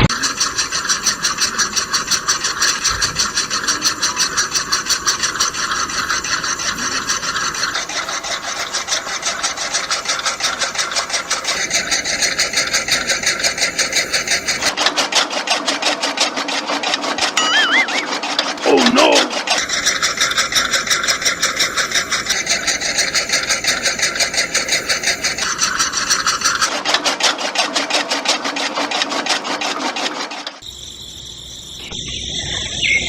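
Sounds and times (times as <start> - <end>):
small machine rasping clatter: 0.0 - 17.4, 18.2 - 33.0.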